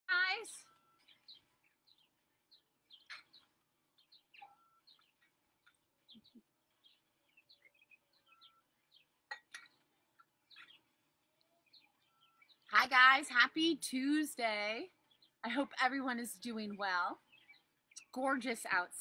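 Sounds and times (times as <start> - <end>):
songbird chirps: 0.1 - 19.0.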